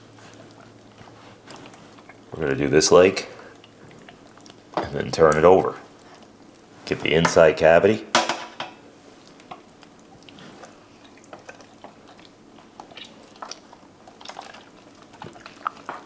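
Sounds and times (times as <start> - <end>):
wet squishing of hands in paste: 0.0 - 7.8, 8.8 - 16.0.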